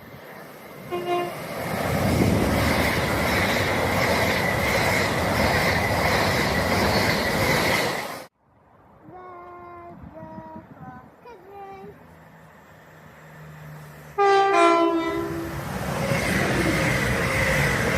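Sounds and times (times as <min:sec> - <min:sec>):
train passing at speed: 0:00.0 - 0:08.8, 0:11.6 - 0:17.9.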